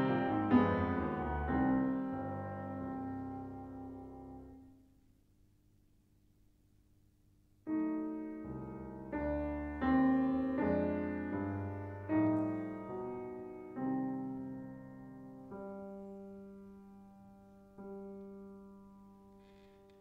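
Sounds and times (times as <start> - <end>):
grand piano chords: 0.0 - 4.8, 7.7 - 20.0.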